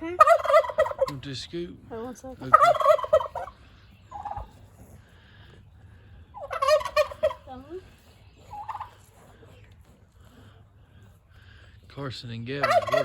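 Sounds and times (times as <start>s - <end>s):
turkey gobbling: 0.0s - 5.4s, 6.2s - 11.0s, 12.5s - 13.0s.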